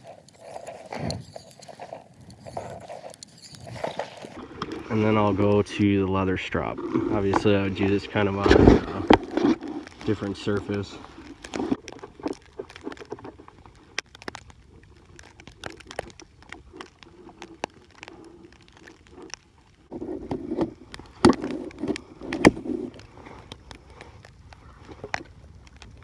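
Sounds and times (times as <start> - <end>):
knife shaving wood: 0.0 - 5.6, 6.2 - 25.6
sharp wood cracks: 0.0 - 26.0.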